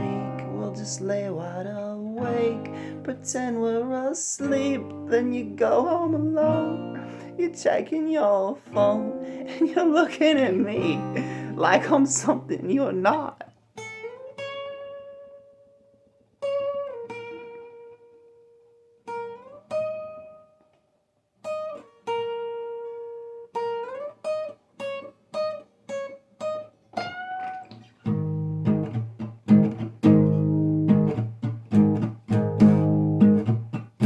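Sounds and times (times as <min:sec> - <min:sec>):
guitar playing: 0:00.0 - 0:34.0.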